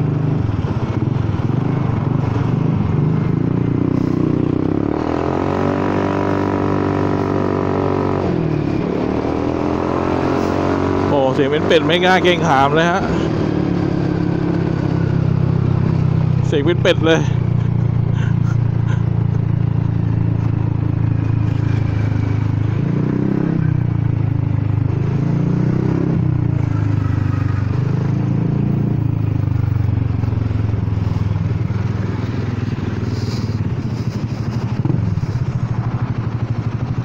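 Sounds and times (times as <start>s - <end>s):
scooter engine with broken exhaust: 0.0s - 37.0s.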